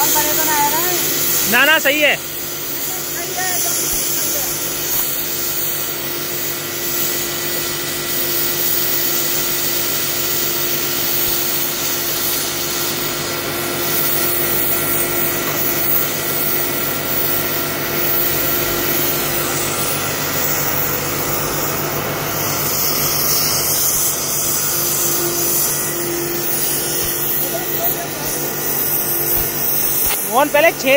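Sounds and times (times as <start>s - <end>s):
gas cutting torch hissing: 0.0s - 30.9s.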